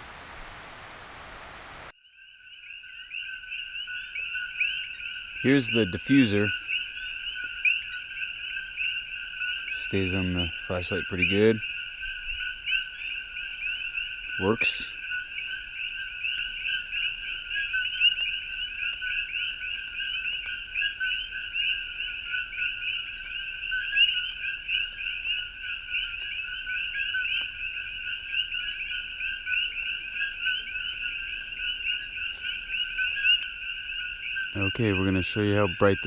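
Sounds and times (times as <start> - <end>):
chorus of frogs chirping: 2.0 - 36.0.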